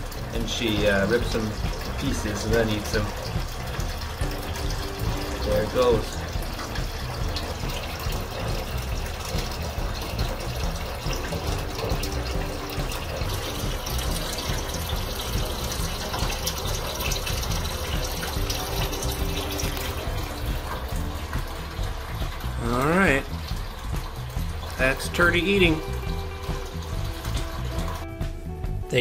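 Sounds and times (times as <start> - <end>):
water filter rushing and splashing: 0.0 - 29.0.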